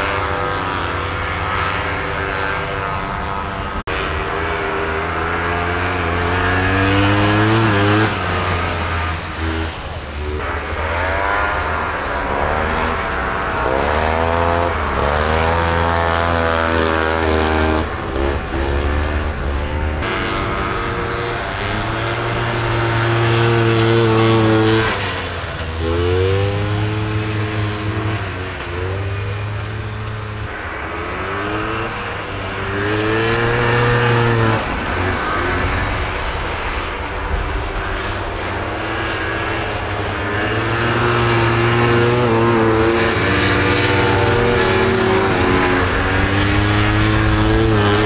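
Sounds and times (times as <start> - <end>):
snowmobile engines revving: 0.0 - 48.0.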